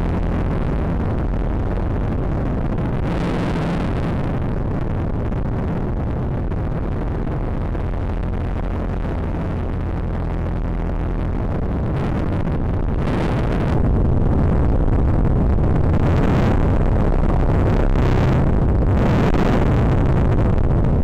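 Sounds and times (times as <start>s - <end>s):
model plane propeller and wind rush: 0.0s - 21.0s.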